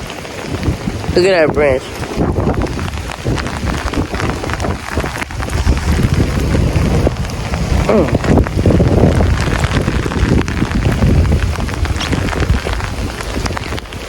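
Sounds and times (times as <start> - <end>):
heavy rain pattering: 0.0 - 14.0
wind buffeting microphone: 0.0 - 14.0.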